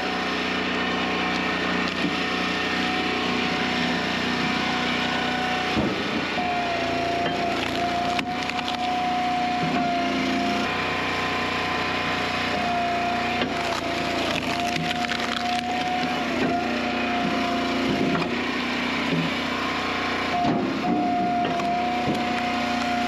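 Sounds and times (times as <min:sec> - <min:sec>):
wood splitter engine humming: 0:00.0 - 0:23.0
wood cracking and splintering: 0:00.6 - 0:10.6, 0:11.9 - 0:23.0.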